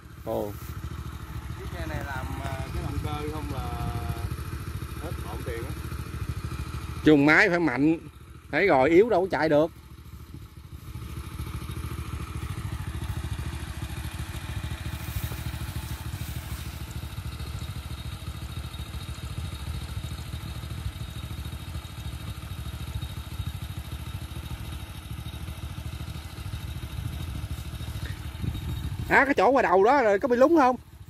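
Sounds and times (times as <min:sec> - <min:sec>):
small motorcycle engine idling: 0:00.0 - 0:31.0.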